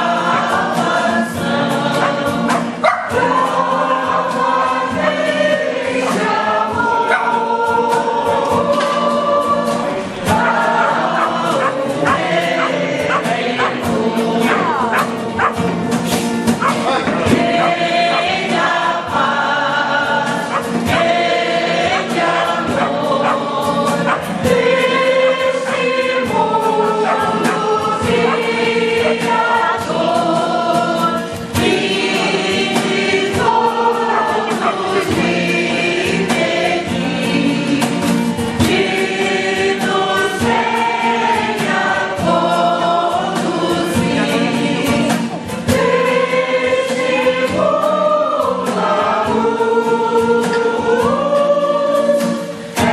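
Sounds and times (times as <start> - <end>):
choir singing long notes: 0.0 - 52.9.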